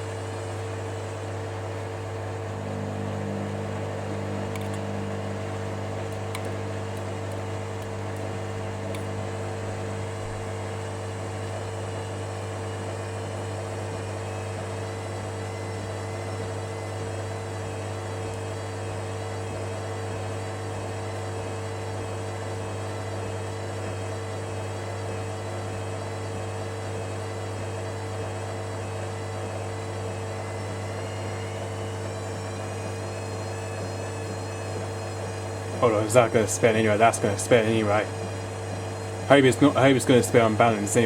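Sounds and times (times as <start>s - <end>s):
washing machine humming: 0.0s - 41.0s.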